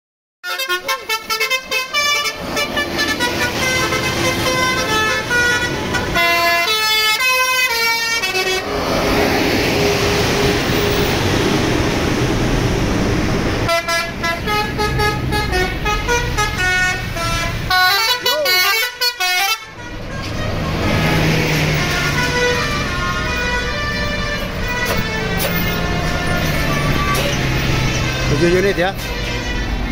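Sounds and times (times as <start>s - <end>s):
bus horn playing multi-note tune: 0.4s - 8.8s, 13.7s - 29.9s
bus engine and road noise: 0.5s - 29.9s.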